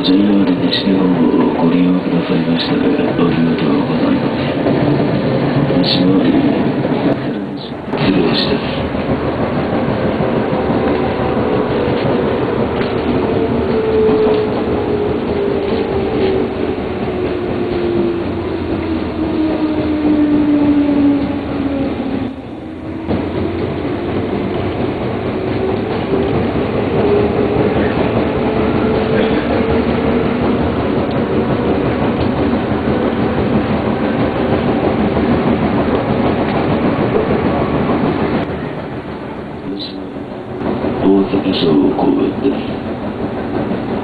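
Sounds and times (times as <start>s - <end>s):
electric train whine: 0.0s - 44.0s
train wheels clattering over rails: 0.0s - 44.0s.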